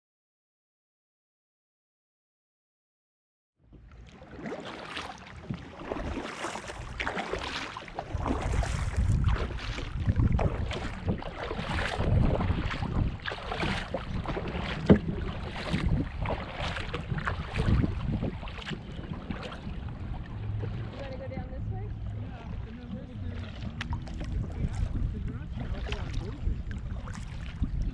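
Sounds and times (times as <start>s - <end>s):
kayak paddle splashing in water: 3.7s - 27.9s
wind rumbling on microphone: 5.4s - 27.9s.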